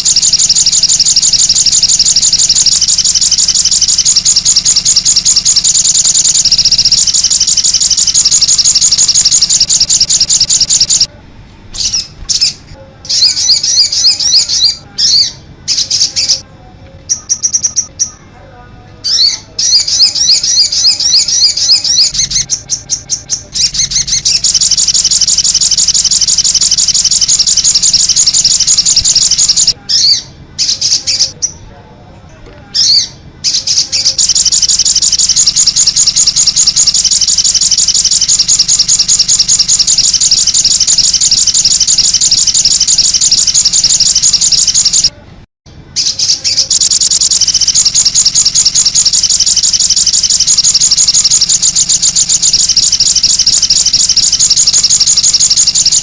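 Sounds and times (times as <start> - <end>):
bird chirping rapidly: 0.0 - 11.1, 11.8 - 16.4, 17.1 - 18.2, 19.1 - 31.6, 32.8 - 45.1, 46.0 - 56.0.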